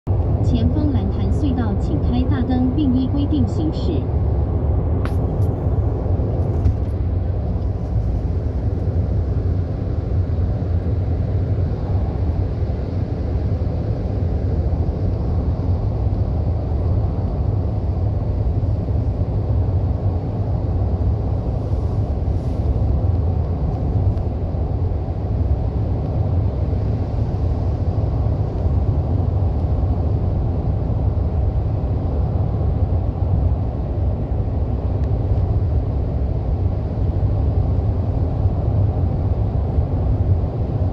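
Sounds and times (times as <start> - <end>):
tunnel traffic: 0.1 - 40.9.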